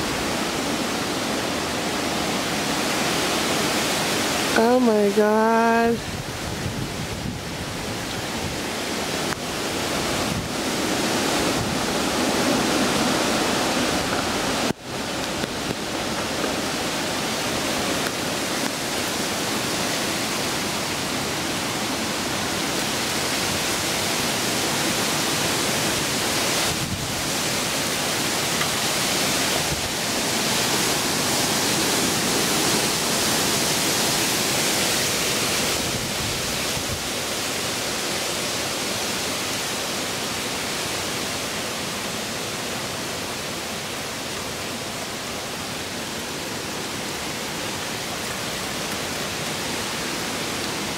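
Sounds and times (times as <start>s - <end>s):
heavy rain and wind: 0.0s - 50.9s.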